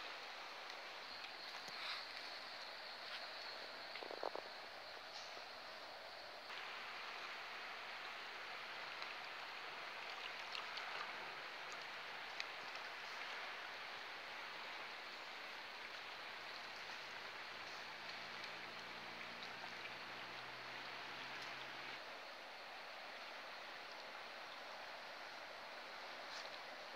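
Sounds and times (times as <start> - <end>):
river water rushing: 0.0 - 4.0, 5.6 - 26.9.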